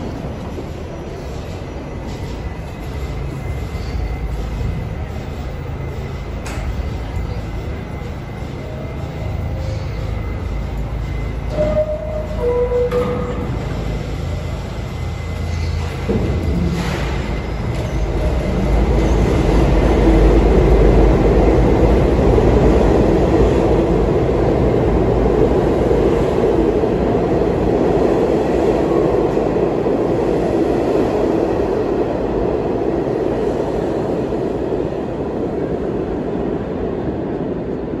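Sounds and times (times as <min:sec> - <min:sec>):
subway train pulling out: 0:00.0 - 0:38.0.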